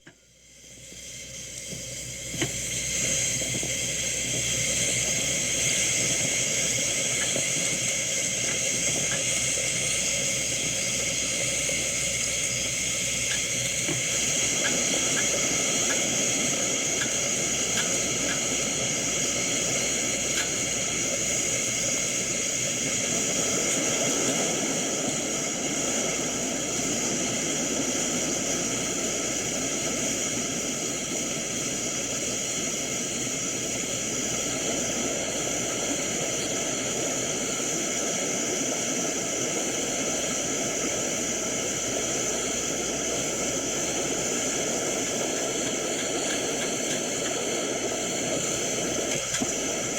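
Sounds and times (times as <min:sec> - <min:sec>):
gas burner flame hissing: 0:00.0 - 0:49.9.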